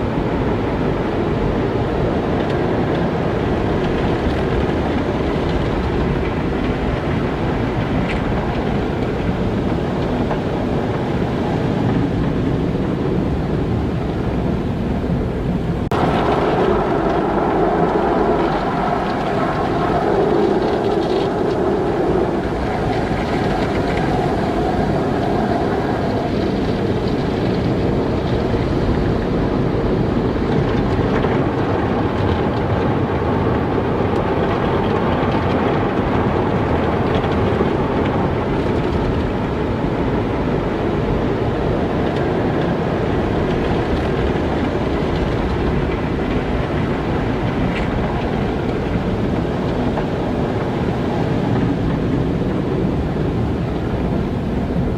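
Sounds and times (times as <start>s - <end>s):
car wash water and machinery: 0.0s - 54.9s.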